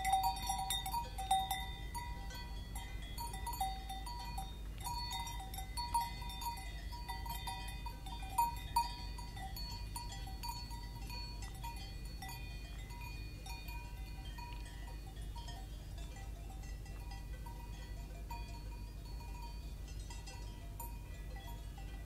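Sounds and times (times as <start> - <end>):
cowbells clanking: 0.0 - 22.0.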